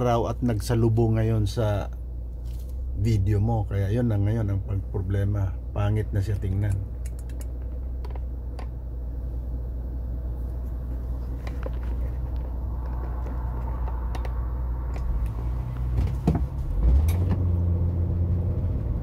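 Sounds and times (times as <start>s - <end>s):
car engine: 0.0s - 19.0s
road rumble: 0.0s - 19.0s.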